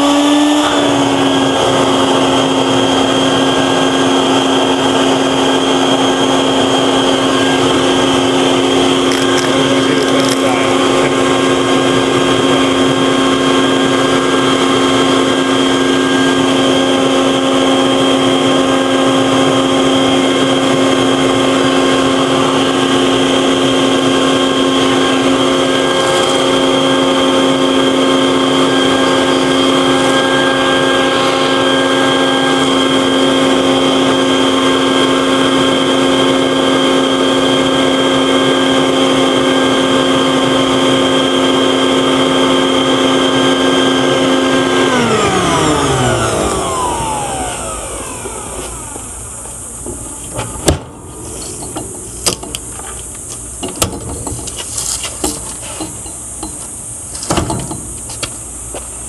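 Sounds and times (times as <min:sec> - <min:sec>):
shop vacuum motor whining: 0:00.0 - 0:59.0.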